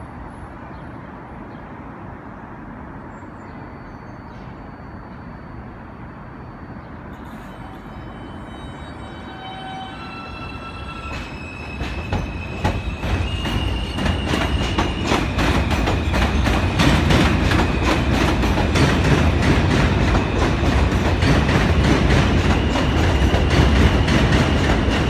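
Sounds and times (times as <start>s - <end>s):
subway train arriving: 0.0s - 25.0s.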